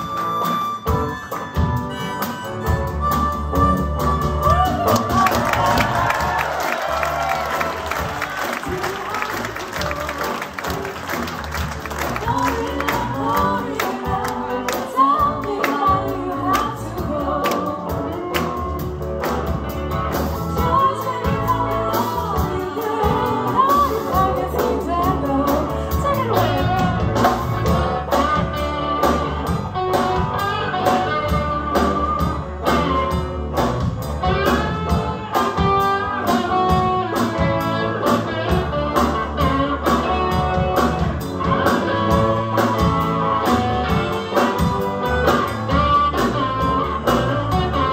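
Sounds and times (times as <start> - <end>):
blues band playing: 0.0 - 47.9
guitar accompaniment: 0.0 - 47.9.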